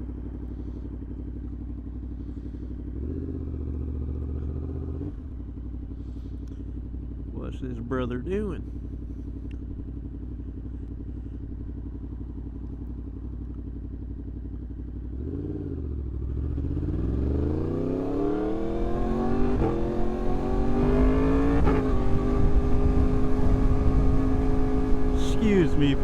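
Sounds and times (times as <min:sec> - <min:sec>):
motorcycle engine revving: 0:00.0 - 0:07.3, 0:07.9 - 0:26.0.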